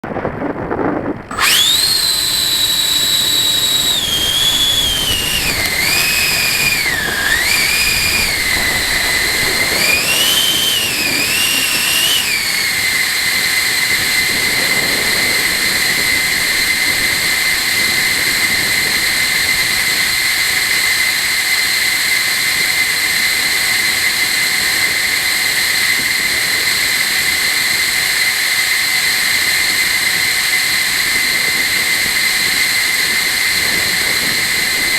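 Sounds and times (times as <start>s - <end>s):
electric ducted fan whining: 1.1s - 34.9s.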